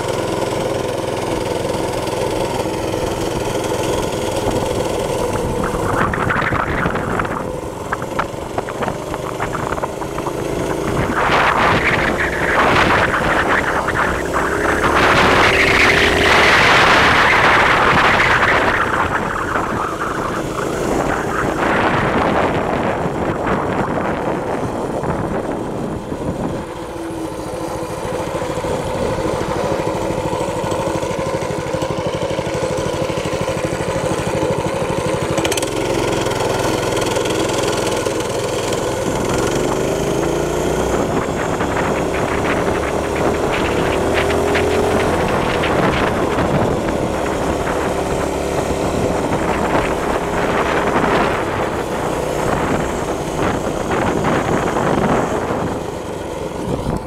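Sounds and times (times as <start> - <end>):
minibike engine running: 0.0 - 57.0.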